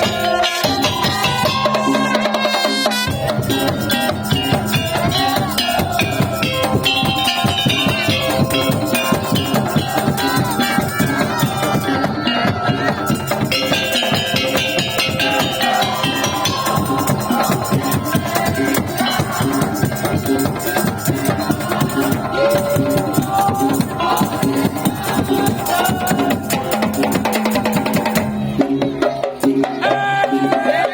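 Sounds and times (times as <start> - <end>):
percussion ensemble of slit drums: 0.0 - 30.9.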